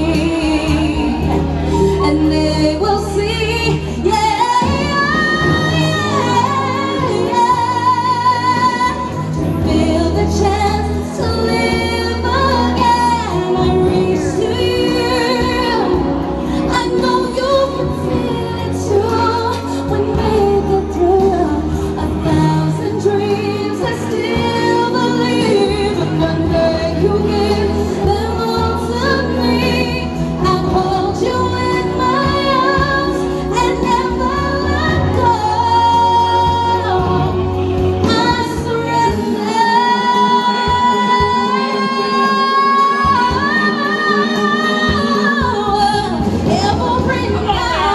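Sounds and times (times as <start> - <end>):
backing music: 0.0 - 47.9
woman singing into a microphone: 0.0 - 47.9.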